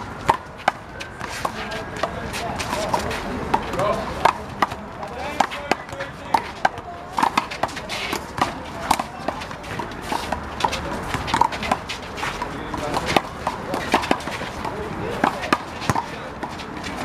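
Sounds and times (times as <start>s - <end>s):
voices in background: 0.0s - 17.0s
handball slaps and rebounds: 0.2s - 17.0s.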